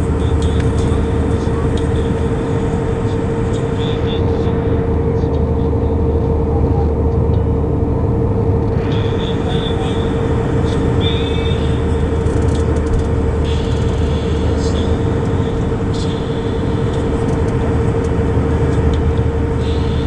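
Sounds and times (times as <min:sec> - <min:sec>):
airliner engine rumble: 0:00.0 - 0:20.0
constant hum: 0:00.0 - 0:20.0.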